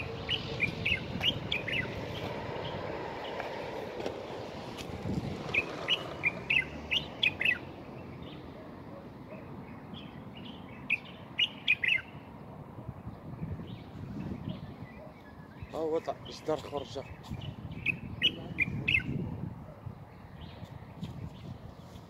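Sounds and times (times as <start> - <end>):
bird chirping: 0.0 - 3.8, 5.4 - 19.3.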